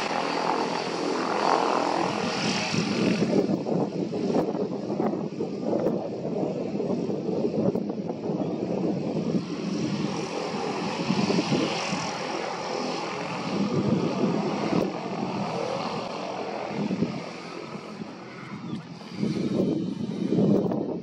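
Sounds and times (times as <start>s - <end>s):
turboprop engines taxiing: 0.0s - 21.0s.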